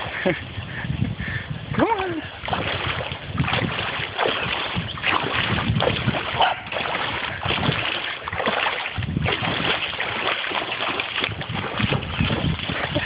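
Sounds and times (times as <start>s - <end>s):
water sloshing from wading: 2.2s - 13.0s.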